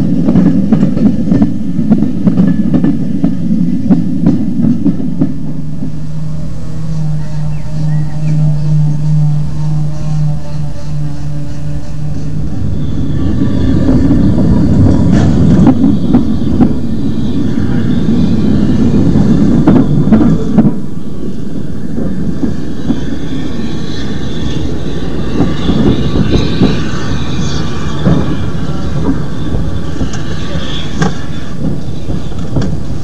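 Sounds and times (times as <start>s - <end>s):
steam locomotive chuffing: 0.0s - 33.0s.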